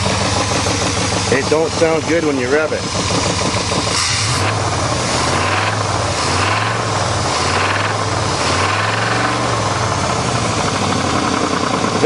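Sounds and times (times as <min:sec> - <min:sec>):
engine knocking: 0:00.0 - 0:12.0
truck engine revving: 0:00.0 - 0:12.0.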